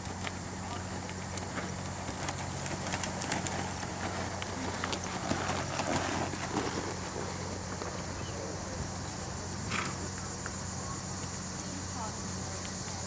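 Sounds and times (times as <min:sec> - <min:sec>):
hoofbeats on dirt: 0:00.0 - 0:10.6
steady low hum: 0:00.0 - 0:13.0.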